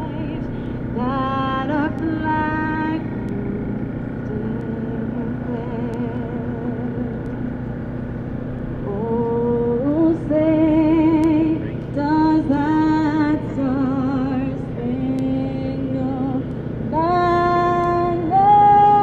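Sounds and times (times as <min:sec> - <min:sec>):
woman singing with vibrato: 0:00.0 - 0:07.3, 0:08.8 - 0:19.0.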